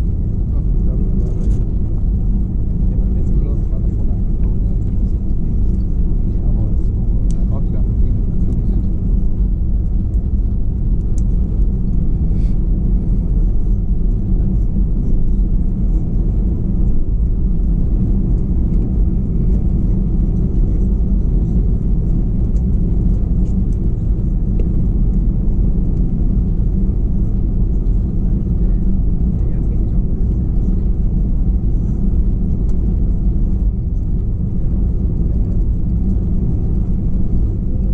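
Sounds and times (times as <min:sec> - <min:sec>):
jet engine cabin rumble: 0:00.0 - 0:37.9.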